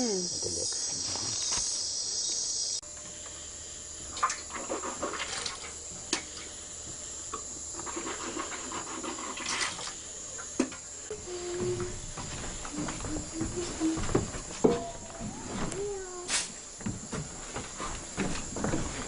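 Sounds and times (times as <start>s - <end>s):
high-pitched insect drone: 0.0s - 17.2s
dense insect chorus: 0.0s - 19.0s.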